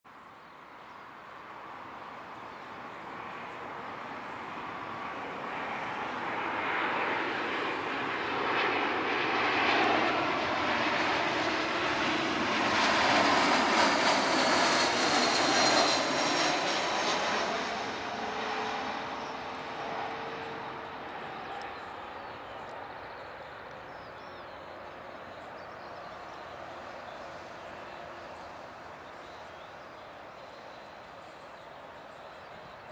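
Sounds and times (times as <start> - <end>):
jet airliner passing low: 0.6 - 32.9.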